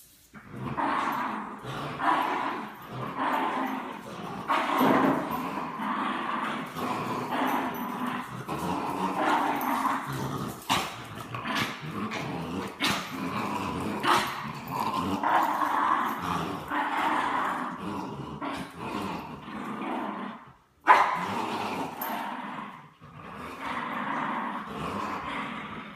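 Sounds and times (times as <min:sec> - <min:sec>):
dogs growling in play: 0:00.3 - 0:25.9.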